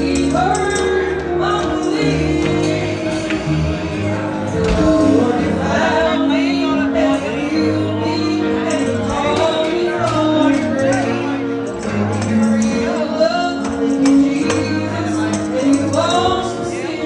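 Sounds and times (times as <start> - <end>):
held instrumental chords: 0.0 - 17.0
person singing: 0.0 - 17.0.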